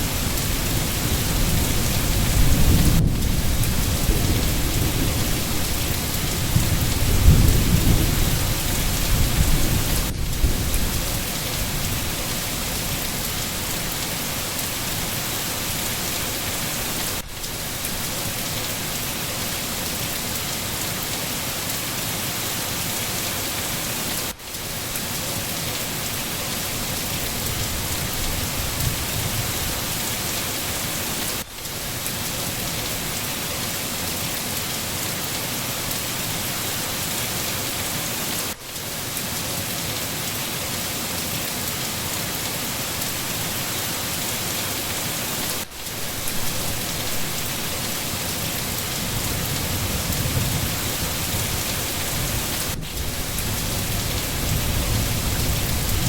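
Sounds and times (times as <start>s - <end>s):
rain falling in a forest: 0.0s - 56.0s.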